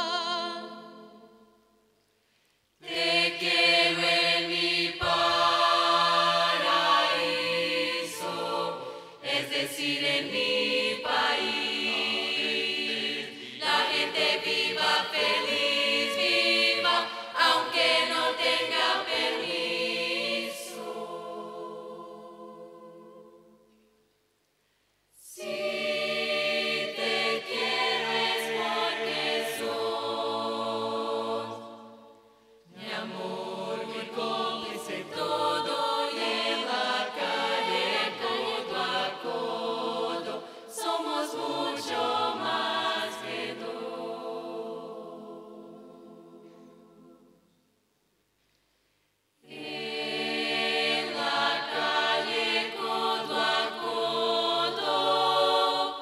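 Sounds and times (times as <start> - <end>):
mixed-voice choir singing: 0.0 - 1.8, 2.8 - 24.0, 25.2 - 47.7, 49.4 - 56.0.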